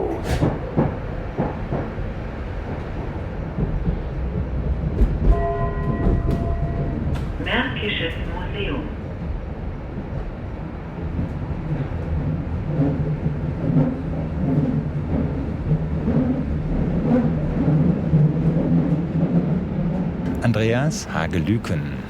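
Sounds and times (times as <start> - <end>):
underground train rumbling: 0.0 - 22.0.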